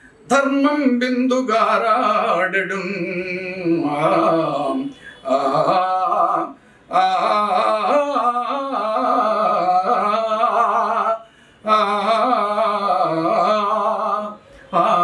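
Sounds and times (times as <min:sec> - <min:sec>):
man singing slow melody: 0:00.0 - 0:15.0.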